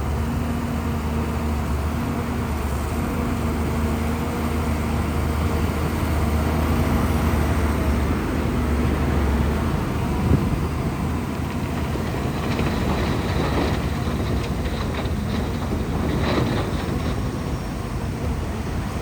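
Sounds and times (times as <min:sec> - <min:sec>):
bulldozer diesel engine droning: 0:00.0 - 0:19.0.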